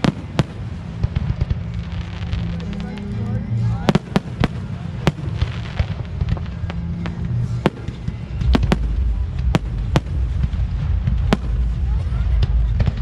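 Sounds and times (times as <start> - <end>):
fireworks exploding: 0.0 - 13.0
low rumble: 0.0 - 13.0.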